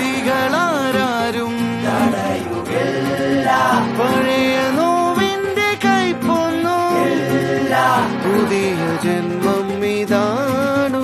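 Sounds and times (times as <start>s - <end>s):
song with sung vocals: 0.0s - 11.0s.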